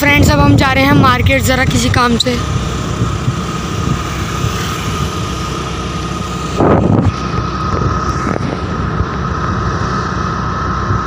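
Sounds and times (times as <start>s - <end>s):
high whine: 0.0s - 11.0s
scooter engine running: 0.0s - 11.0s
wind rushing over microphone: 0.0s - 11.0s.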